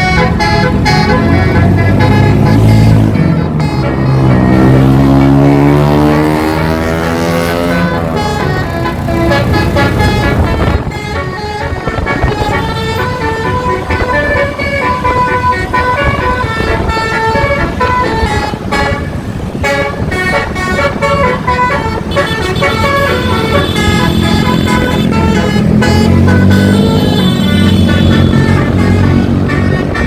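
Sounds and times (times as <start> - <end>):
bus horn playing a melody: 0.0 - 30.0.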